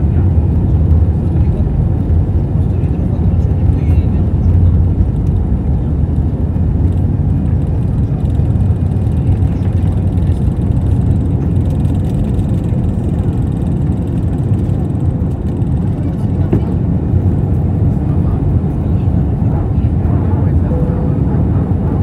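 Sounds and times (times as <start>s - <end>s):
jet engines roaring at takeoff: 0.0s - 22.0s
runway rumble: 0.0s - 22.0s.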